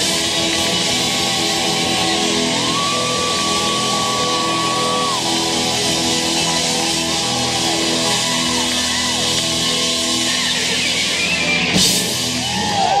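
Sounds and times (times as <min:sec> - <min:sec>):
drum kit: 0:00.0 - 0:13.0
loud electric guitars: 0:00.0 - 0:13.0.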